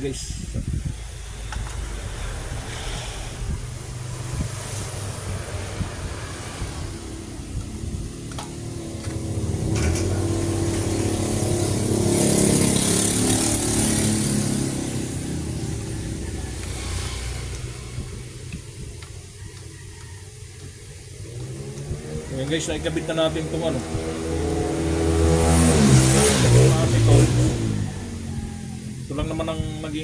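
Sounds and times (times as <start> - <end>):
motor vehicle passing by: 0.4 - 30.0.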